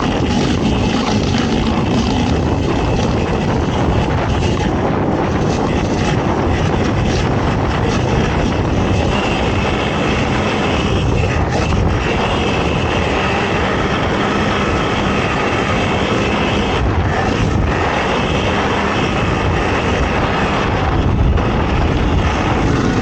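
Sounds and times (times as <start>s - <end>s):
atv engine at high revs: 0.0s - 23.0s.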